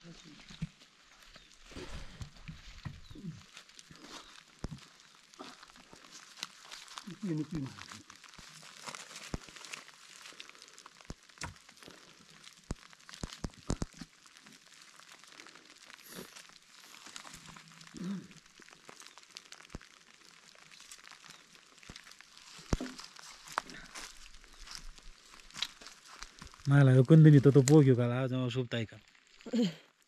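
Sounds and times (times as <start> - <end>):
wood and twigs snapping and crackling: 0.0 - 28.2, 29.0 - 30.0.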